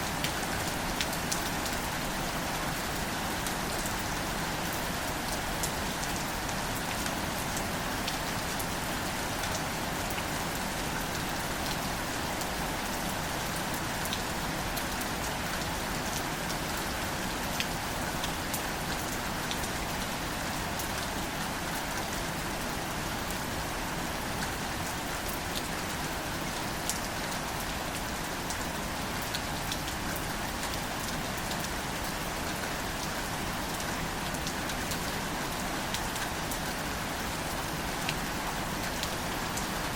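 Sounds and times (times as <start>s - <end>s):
light rain falling on plants: 0.0s - 39.9s.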